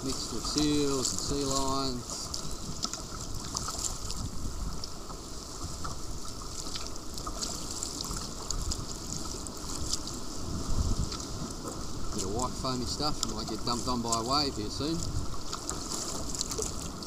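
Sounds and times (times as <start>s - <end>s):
water splashing around kayak: 0.0s - 17.0s
wind rumble on microphone: 0.0s - 17.0s.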